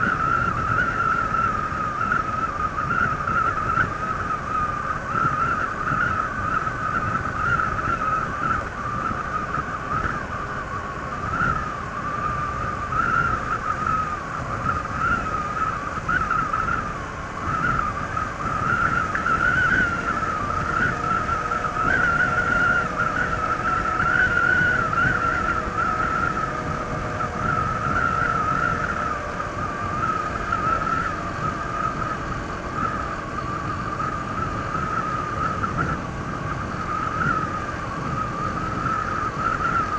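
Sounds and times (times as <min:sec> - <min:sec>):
high wavering whine: 0:00.0 - 0:39.9
scooter engine cruising: 0:00.0 - 0:39.9
wind rushing at microphone: 0:00.0 - 0:39.9.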